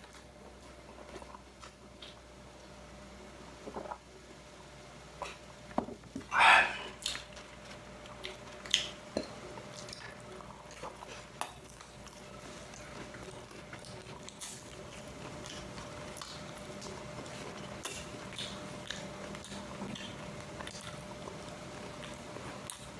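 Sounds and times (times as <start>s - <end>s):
chewing: 0.0s - 2.7s, 6.2s - 22.9s.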